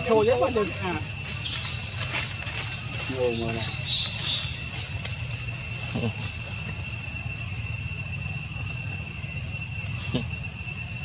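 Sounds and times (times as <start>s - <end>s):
insect chorus trilling: 0.0s - 11.0s
faint chirps: 1.2s - 11.0s.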